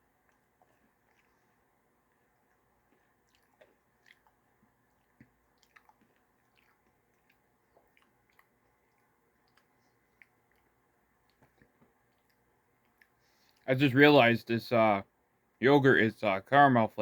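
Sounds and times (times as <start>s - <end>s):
chewing crunchy food: 0.0s - 13.7s.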